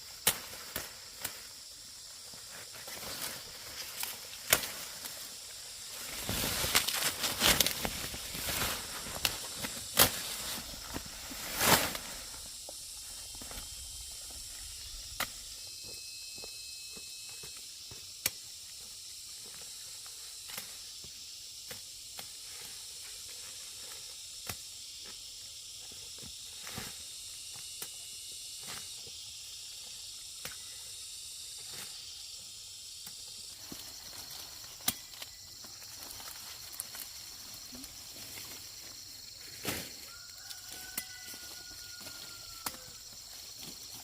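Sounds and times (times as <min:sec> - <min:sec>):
high-pitched outdoor hiss: 0:00.0 - 0:44.0.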